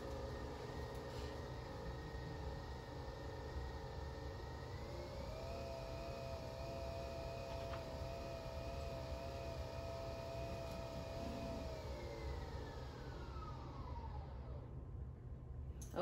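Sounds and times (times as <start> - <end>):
coffee machine motor whirring: 0.0 - 14.6.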